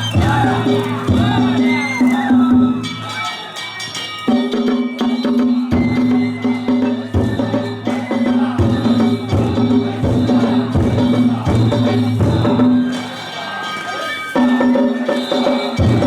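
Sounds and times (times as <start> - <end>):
drum and gong strikes: 0.0 - 13.3, 14.4 - 16.0.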